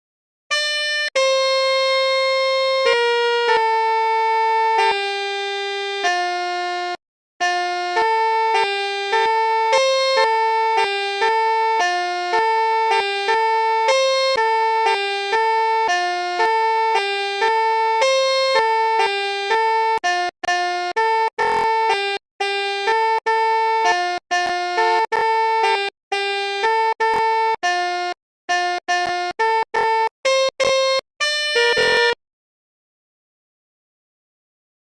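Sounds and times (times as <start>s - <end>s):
multi-tone horn playing melody: 0.5s - 32.2s.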